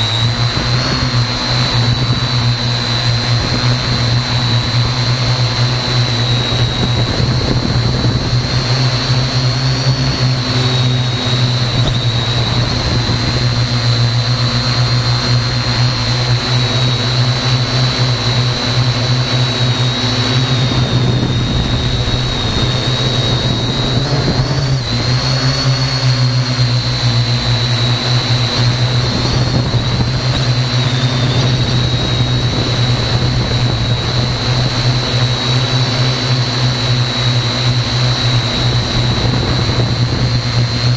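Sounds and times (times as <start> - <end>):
drone propellers humming and whining: 0.0 - 40.9.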